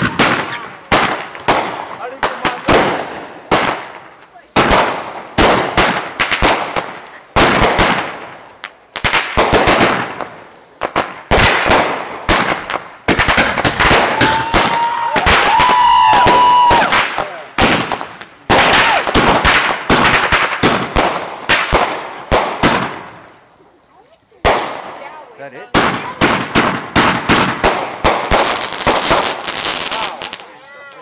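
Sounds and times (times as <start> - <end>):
fireworks crackling pops: 0.0 - 31.0.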